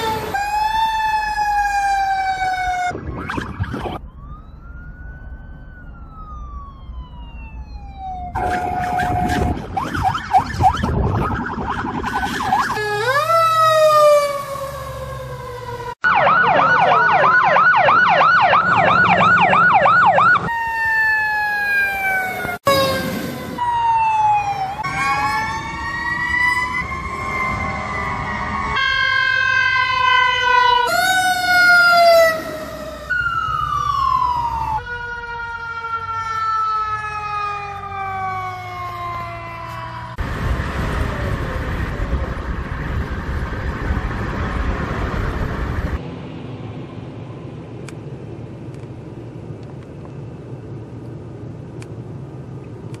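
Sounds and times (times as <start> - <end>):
emergency vehicle sirens wailing: 0.0 - 48.9.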